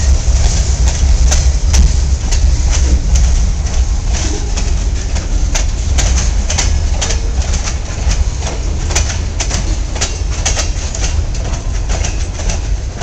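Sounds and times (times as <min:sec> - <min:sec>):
low rumble of freight cars: 0:00.0 - 0:13.0
train wheels clacking on rails: 0:00.0 - 0:13.0.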